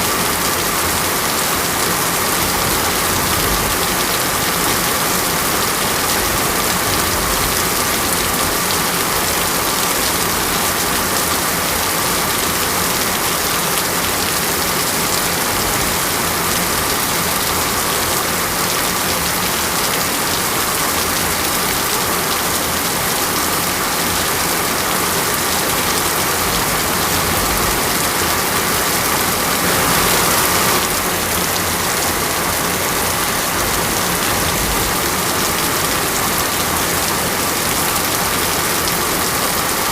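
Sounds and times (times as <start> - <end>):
heavy rain on hard surface: 0.0 - 39.9.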